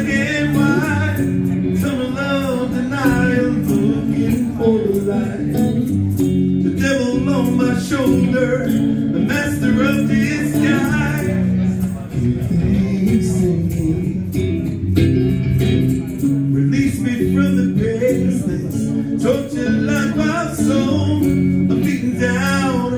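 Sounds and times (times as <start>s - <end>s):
man singing lead vocal: 0.0s - 14.8s, 16.4s - 22.9s
electric guitar: 0.0s - 22.9s.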